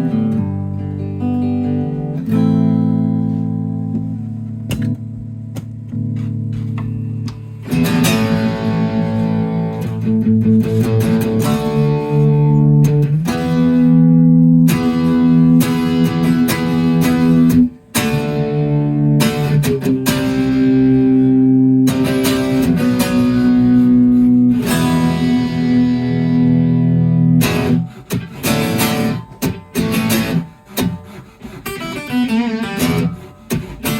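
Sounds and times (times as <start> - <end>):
electric guitar strummed chords: 0.0 - 33.9.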